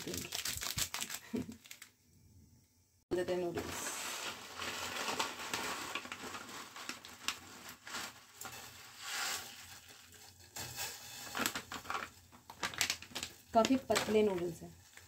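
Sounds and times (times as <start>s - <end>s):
plastic packet crinkling: 0.0s - 1.9s, 4.1s - 15.0s.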